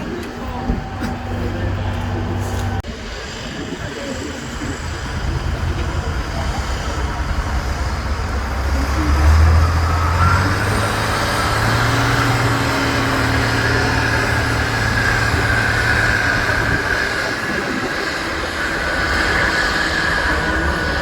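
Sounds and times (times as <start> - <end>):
high whine: 0.0 - 21.0
truck diesel engine working: 0.0 - 21.0.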